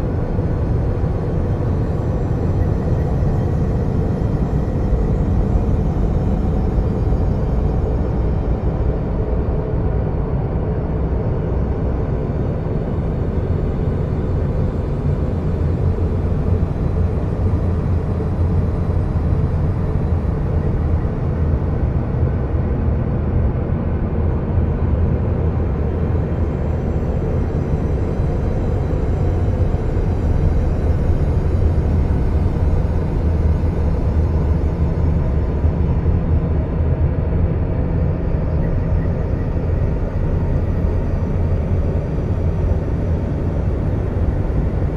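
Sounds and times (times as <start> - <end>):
deep rumbling drone: 0.0 - 44.9.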